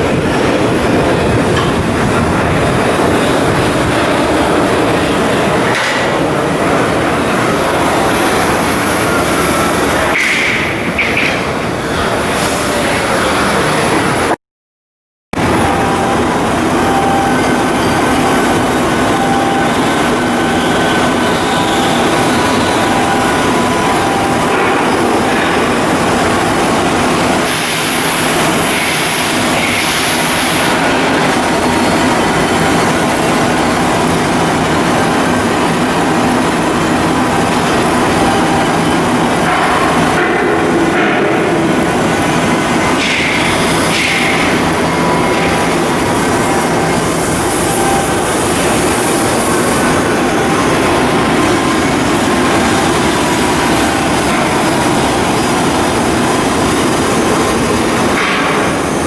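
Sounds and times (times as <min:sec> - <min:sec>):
loud machinery noise: 0:00.0 - 0:14.4, 0:15.3 - 0:59.0.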